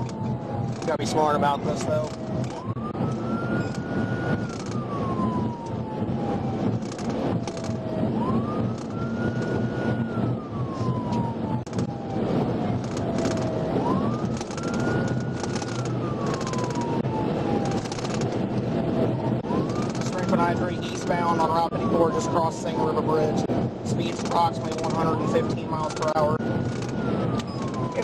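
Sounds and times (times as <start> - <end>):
police siren wailing: 0.0 - 28.0
road and engine noise: 0.0 - 28.0.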